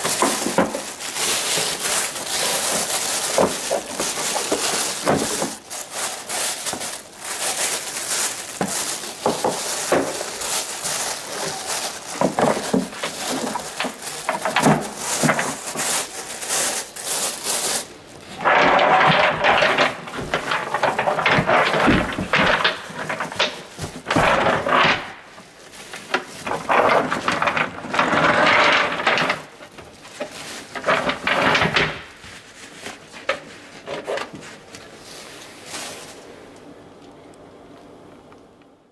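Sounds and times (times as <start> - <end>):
plastic bag rustling: 0.0 - 37.0.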